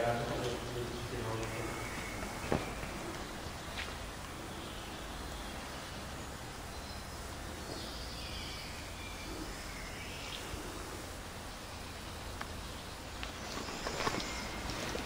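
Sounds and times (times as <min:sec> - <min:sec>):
steady background noise: 0:00.0 - 0:15.0
faint bird chirps: 0:00.4 - 0:15.0.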